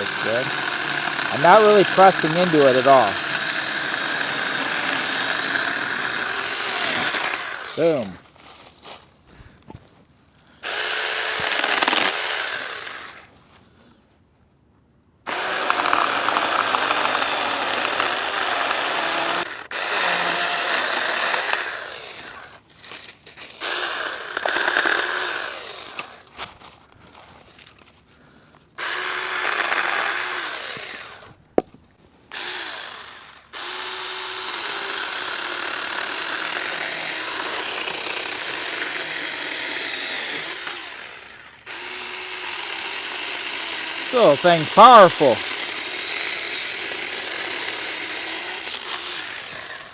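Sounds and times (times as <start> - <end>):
electric chainsaw cutting log: 0.0 - 8.1, 10.6 - 13.3, 15.3 - 22.7, 23.4 - 26.4, 28.8 - 31.4, 32.3 - 49.9.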